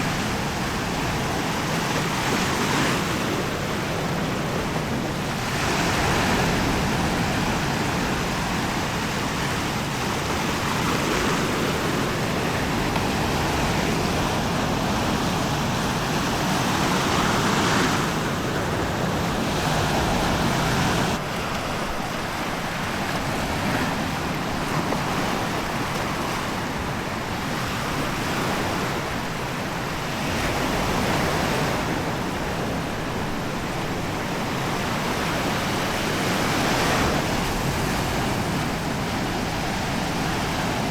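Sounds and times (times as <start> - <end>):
waves washing onto sandy beach: 0.0 - 40.9.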